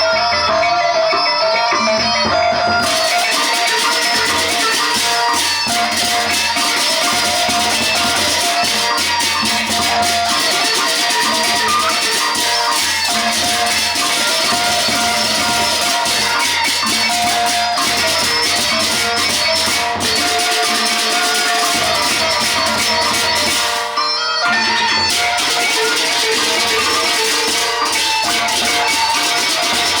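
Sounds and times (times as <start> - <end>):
big drums: 1.8 - 24.0, 24.6 - 30.0
small cymbals clashing: 2.8 - 30.0.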